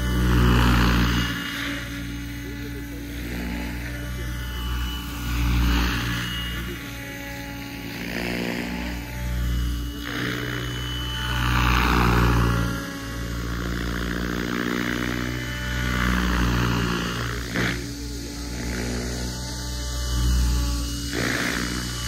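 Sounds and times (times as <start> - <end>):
electric motor whine: 0.0 - 22.0
rc helicopter rotor whoosh: 0.0 - 22.0.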